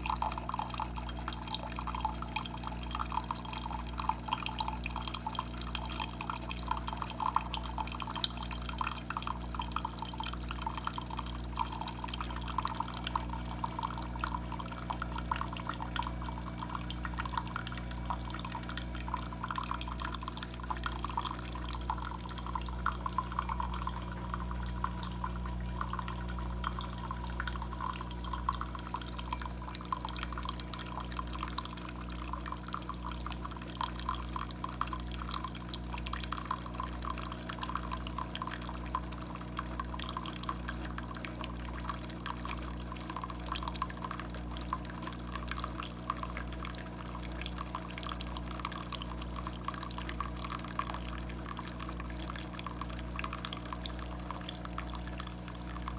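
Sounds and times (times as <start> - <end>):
coffee trickling into a cup: 0.0 - 55.9.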